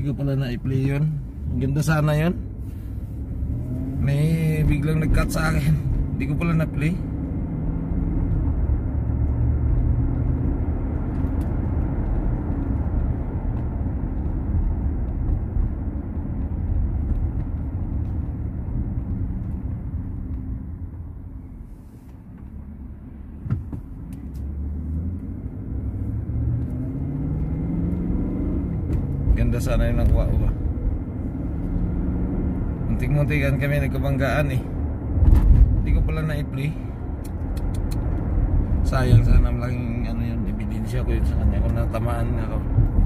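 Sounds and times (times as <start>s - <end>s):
car engine and road rumble: 0.0s - 43.0s.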